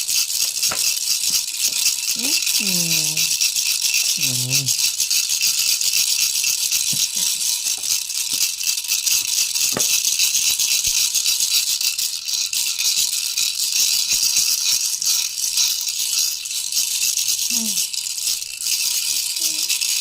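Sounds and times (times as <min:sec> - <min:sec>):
toy rattle shaken: 0:00.0 - 0:20.0.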